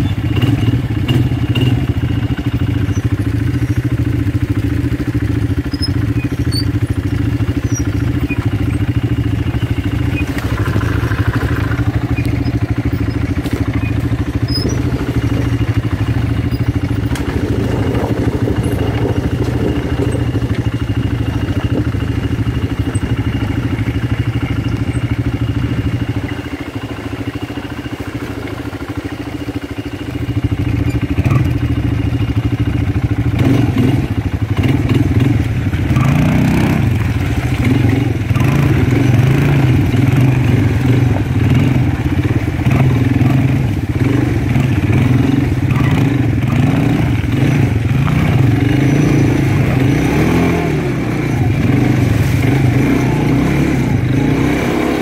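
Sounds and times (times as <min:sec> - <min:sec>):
atv engines running: 0:00.0 - 0:55.0
clatter: 0:00.0 - 0:55.0.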